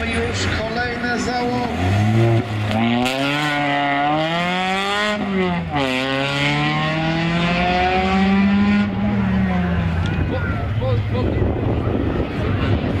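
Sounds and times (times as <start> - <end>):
rally car engine accelerating: 0.0 - 10.6.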